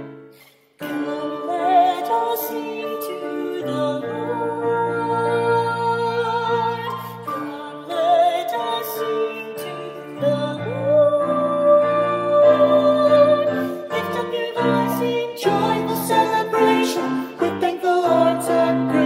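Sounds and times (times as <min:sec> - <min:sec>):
piano chords: 0:00.0 - 0:19.0
choir singing: 0:00.8 - 0:19.0.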